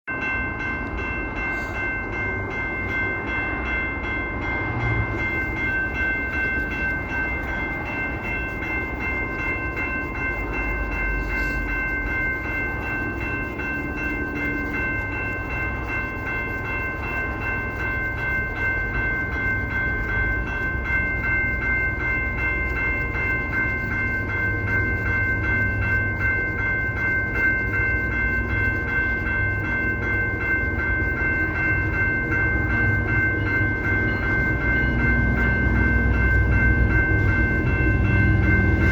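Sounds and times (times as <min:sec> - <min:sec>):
steady high-pitched tones: 0:00.1 - 0:38.9
train rumbling past: 0:00.1 - 0:38.9.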